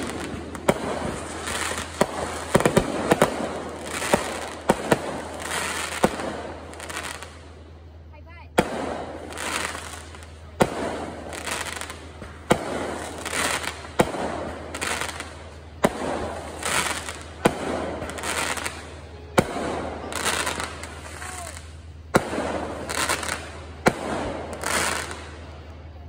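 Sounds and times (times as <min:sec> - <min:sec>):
firework bangs with crackling echo: 0:00.0 - 0:26.0.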